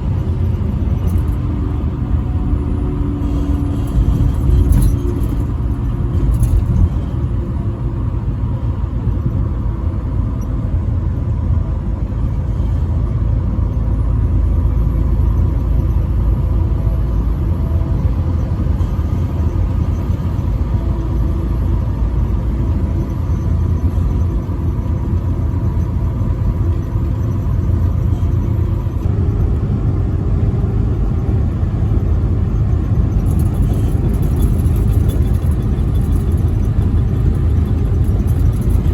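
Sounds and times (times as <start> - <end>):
truck driving at highway speed: 0.0 - 38.9.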